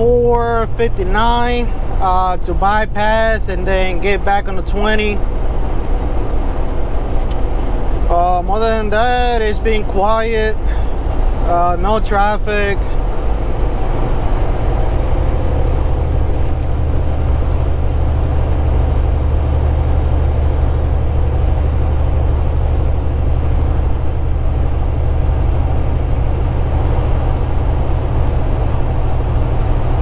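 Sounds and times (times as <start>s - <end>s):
road and wind noise: 0.0s - 30.0s
truck engine hum: 0.0s - 30.0s.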